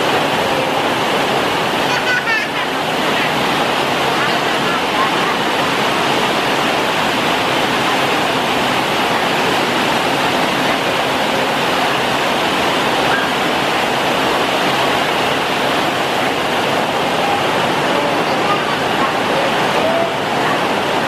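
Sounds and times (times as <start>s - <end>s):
loud steady rushing hiss: 0.0s - 21.0s.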